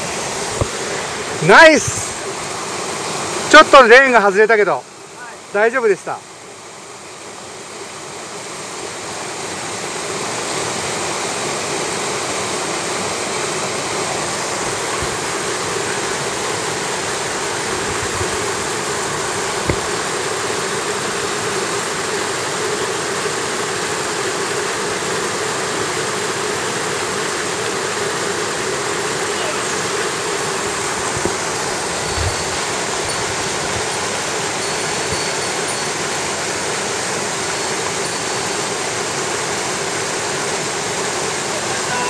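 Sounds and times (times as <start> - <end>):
stream water rushing over rocks: 0.0 - 42.0.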